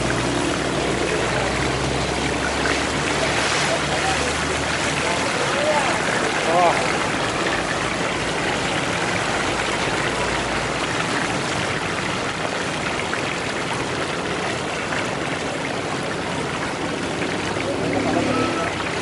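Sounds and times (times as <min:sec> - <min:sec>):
fish deep-frying in oil: 0:00.0 - 0:19.0.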